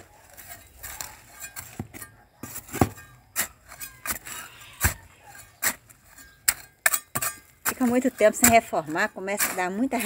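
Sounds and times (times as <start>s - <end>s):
metal trowel scraping soil: 0.0s - 10.0s.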